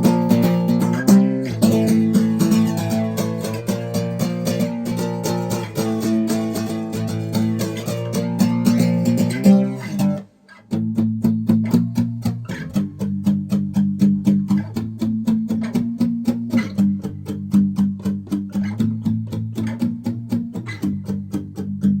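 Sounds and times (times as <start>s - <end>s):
guitar strumming: 0.0s - 22.0s.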